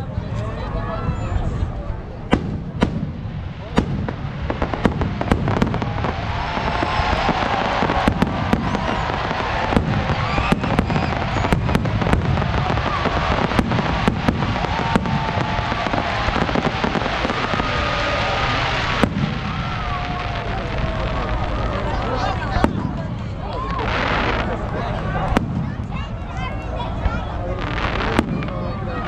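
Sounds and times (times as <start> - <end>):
fireworks rumble and crackle: 0.0 - 29.0
fireworks bangs and pops: 2.3 - 26.2, 27.0 - 28.8.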